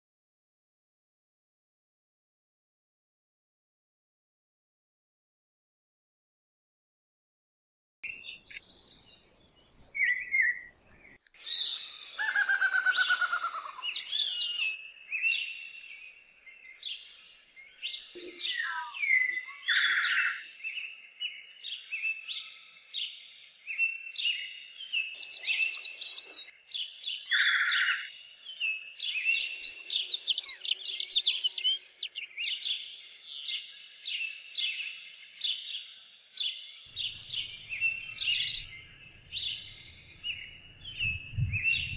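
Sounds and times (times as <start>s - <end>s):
birds chirping and singing: 8.0s - 41.9s.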